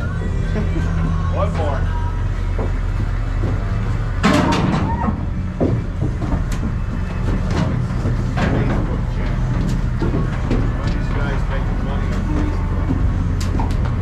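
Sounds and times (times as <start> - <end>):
low engine hum: 0.0 - 14.0
cattle knocking in metal trailer: 2.5 - 14.0.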